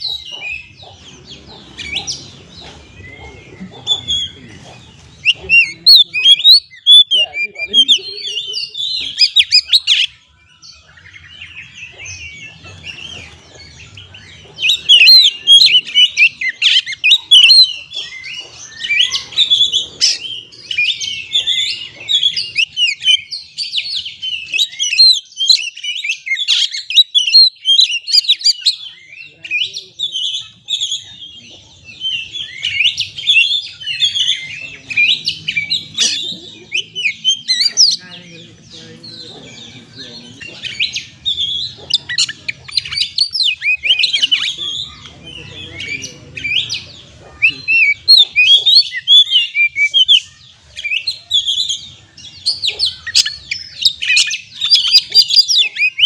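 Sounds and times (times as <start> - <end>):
bird singing chirps and trills: 0.0 - 56.0.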